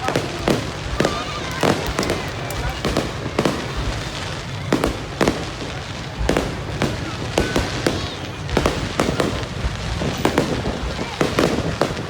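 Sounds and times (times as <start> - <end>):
fireworks bangs: 0.0 - 12.0
rumble of distant explosions: 0.0 - 12.0.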